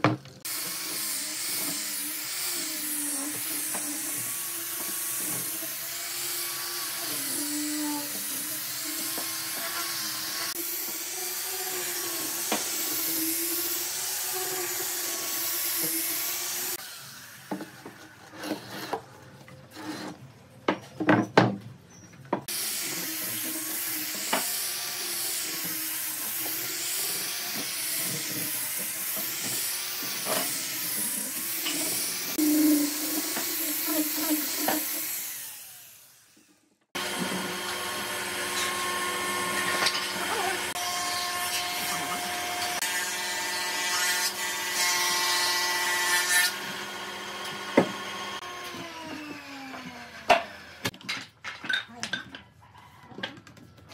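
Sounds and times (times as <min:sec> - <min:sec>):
angle grinder sanding wood: 0:00.4 - 0:19.1, 0:22.4 - 0:50.9.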